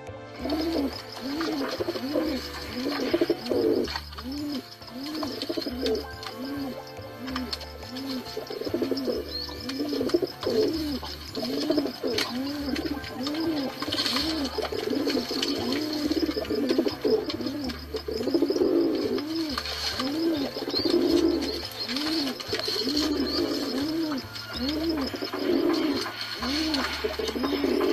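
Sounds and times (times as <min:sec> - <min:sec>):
pigeons cooing: 0:00.4 - 0:27.9.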